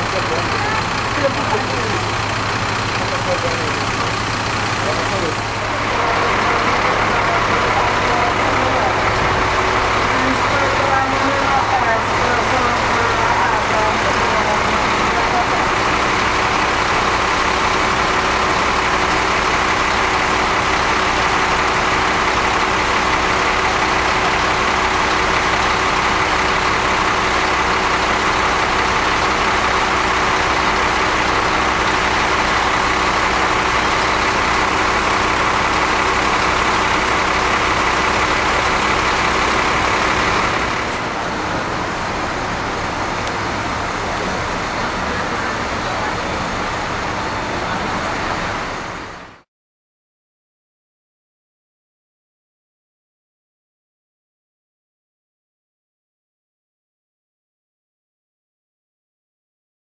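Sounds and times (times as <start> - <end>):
bus engine and road noise: 0.0 - 49.5.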